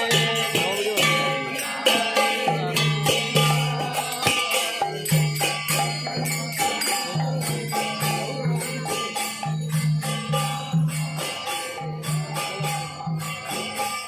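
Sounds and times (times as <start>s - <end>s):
two-headed drum: 0.0s - 13.8s
hand cymbals clashing: 0.0s - 14.0s.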